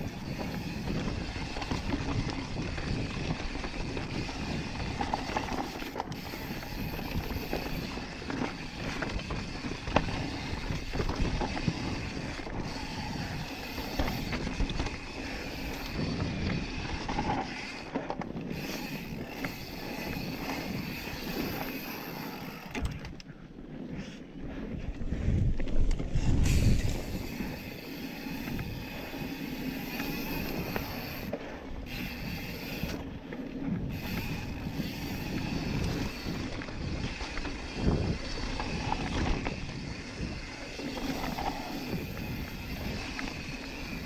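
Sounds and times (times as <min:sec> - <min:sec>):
bike rattling and clicking: 0:00.0 - 0:44.0
bike tyres rushing over dirt: 0:00.0 - 0:44.0.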